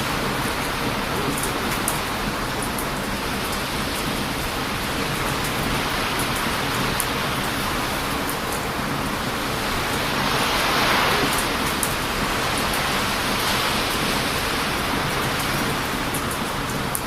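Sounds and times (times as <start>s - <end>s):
ocean surf breaking: 0.0s - 17.0s
strong wind: 0.0s - 17.0s.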